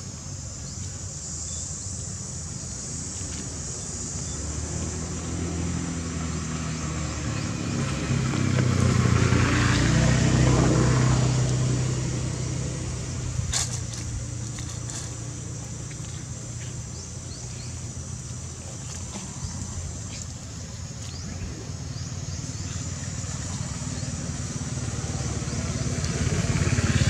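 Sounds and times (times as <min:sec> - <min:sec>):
vehicle engine hum driving past: 0:03.0 - 0:27.0.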